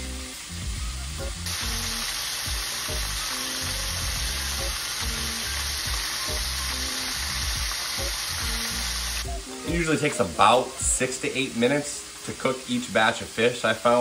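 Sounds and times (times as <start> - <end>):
fish deep-frying in hot oil: 0.0 - 14.0.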